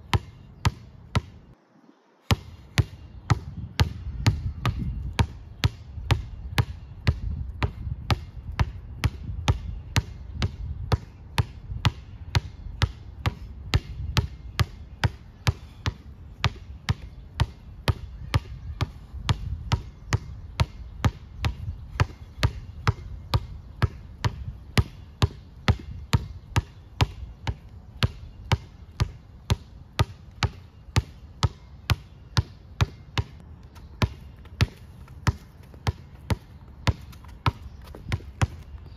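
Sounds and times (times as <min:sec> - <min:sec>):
basketball bouncing on concrete: 0:00.1 - 0:01.4, 0:02.3 - 0:38.9.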